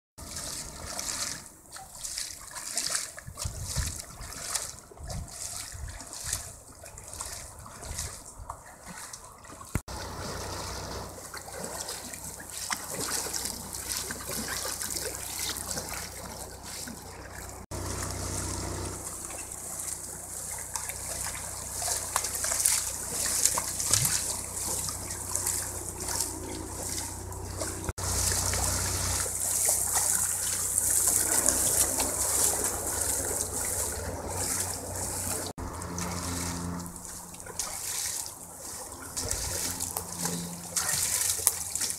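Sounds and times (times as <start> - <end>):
paddle strokes splashing water: 0.2 - 41.9.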